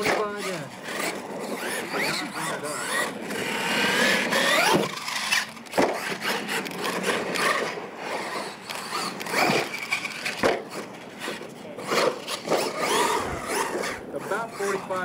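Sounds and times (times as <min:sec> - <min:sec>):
tires scrabbling on dirt: 0:00.0 - 0:15.0
toy truck drivetrain whining: 0:00.0 - 0:15.0.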